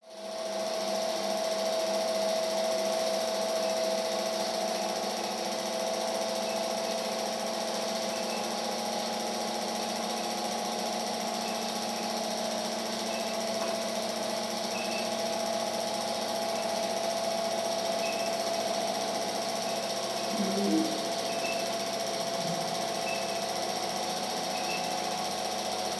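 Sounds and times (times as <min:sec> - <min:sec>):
motor humming: 0:00.2 - 0:25.9.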